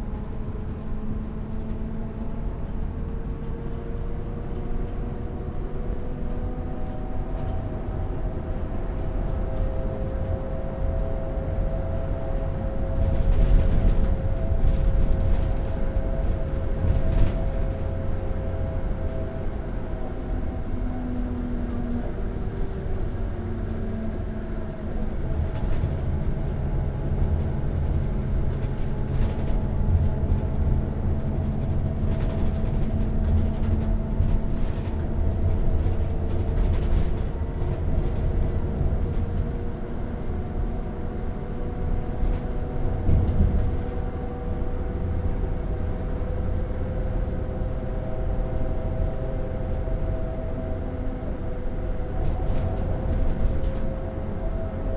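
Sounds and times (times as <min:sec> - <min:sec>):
bus engine rumbling: 0:00.0 - 0:54.9.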